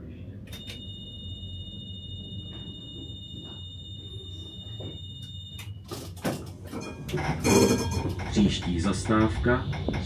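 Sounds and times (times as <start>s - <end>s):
low hum of standing tram: 0.0s - 10.0s.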